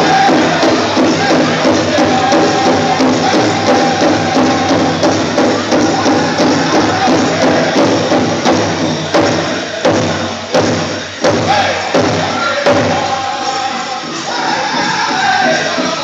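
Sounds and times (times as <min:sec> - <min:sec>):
big drum strokes: 0:00.0 - 0:16.0
group singing in high voices: 0:00.0 - 0:16.0.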